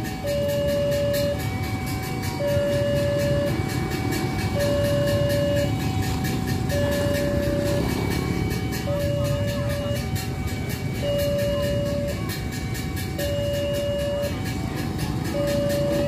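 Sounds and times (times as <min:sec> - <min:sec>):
low engine rumble: 0:00.0 - 0:16.0
two-tone crossing alarm: 0:00.0 - 0:16.0.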